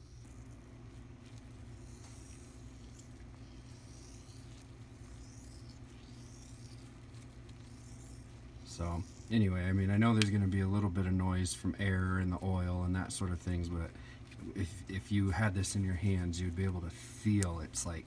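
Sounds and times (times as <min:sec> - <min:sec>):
steady low hum: 0:00.0 - 0:18.0
steering damper gritty scratching: 0:00.0 - 0:18.0.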